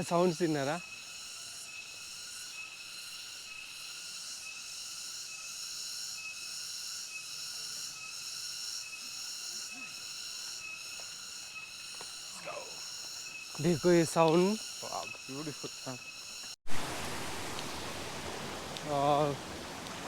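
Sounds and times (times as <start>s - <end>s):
short insect pip: 0.0s - 20.0s
high-pitched insect buzzing: 0.1s - 16.6s.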